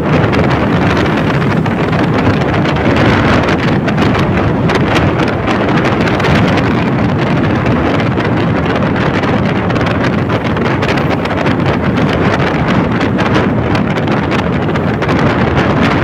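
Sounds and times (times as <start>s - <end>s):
scooter road and engine noise: 0.0s - 16.0s
wind noise on microphone: 0.0s - 16.0s.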